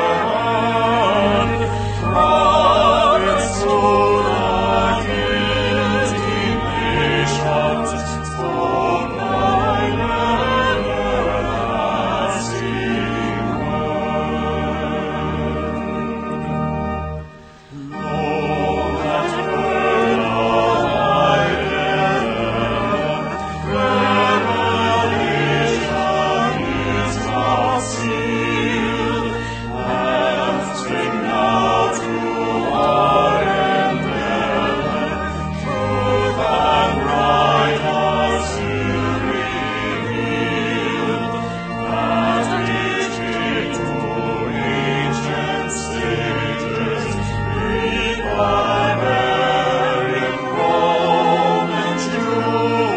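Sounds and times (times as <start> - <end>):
vocal ensemble singing in harmony: 0.0 - 16.5, 17.3 - 52.9.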